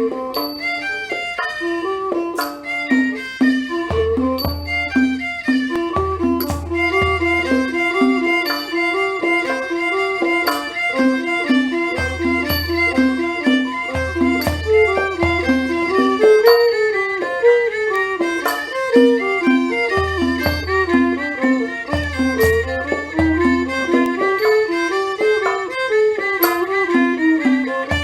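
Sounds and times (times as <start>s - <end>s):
low drum beats: 0.0s - 17.4s, 18.0s - 28.0s
fiddles bowing quick melody: 0.0s - 28.0s
sharp percussion strikes: 0.0s - 28.0s.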